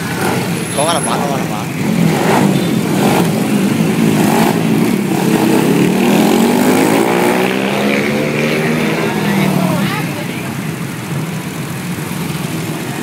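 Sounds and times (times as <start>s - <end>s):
motorbike engines running: 0.0s - 13.0s.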